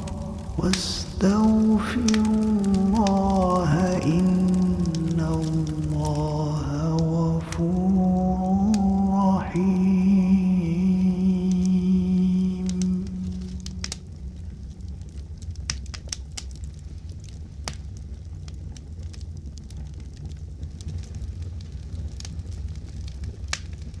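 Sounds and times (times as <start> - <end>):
low fire rumble: 0.0 - 24.0
wood fire crackling: 0.0 - 24.0.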